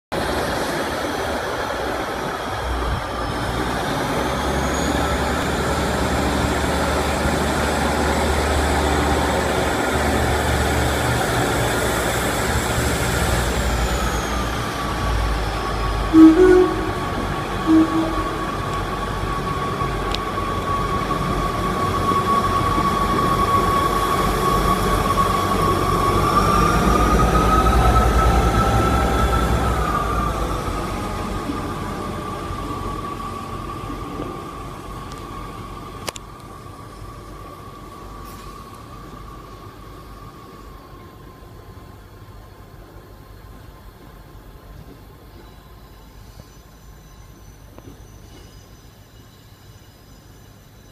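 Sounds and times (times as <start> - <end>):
diesel train engines droning: 0.1 - 50.9
faint high whine: 4.2 - 50.9.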